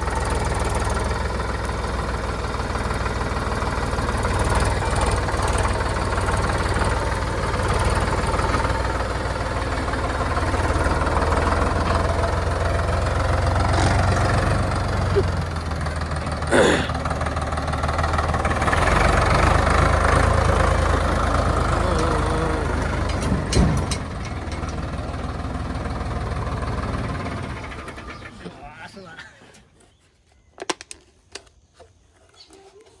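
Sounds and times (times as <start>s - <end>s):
tractor diesel engine running: 0.0s - 29.2s.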